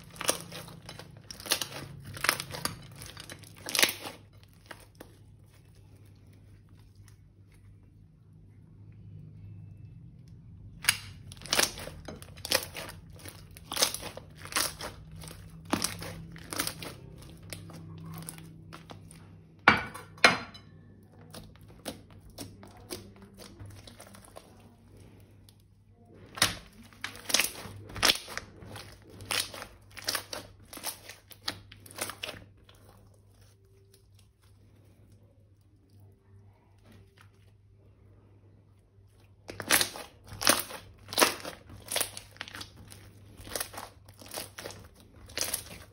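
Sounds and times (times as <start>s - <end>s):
crunchy slime crackling: 0.0s - 8.0s, 9.4s - 19.8s, 20.5s - 45.9s.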